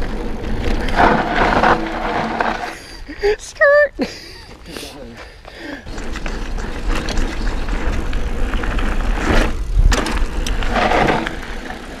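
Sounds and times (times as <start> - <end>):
bike tyres crunching on gravel: 0.0 - 3.1, 4.5 - 12.0
bike clicks and rattles: 0.0 - 3.2, 5.3 - 12.0.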